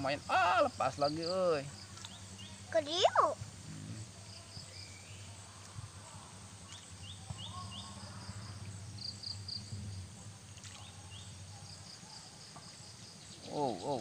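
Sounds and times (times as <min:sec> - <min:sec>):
small birds chirping: 0:00.0 - 0:09.8, 0:10.6 - 0:14.0
steady low hum: 0:00.0 - 0:14.0.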